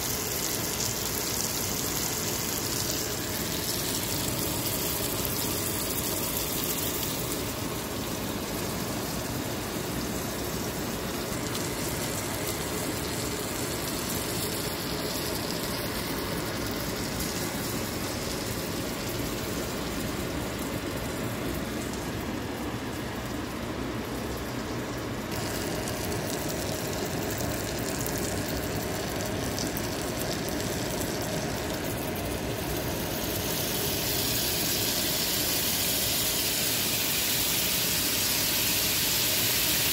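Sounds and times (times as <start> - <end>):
food sizzling in butter: 0.0 - 22.7, 25.3 - 39.9.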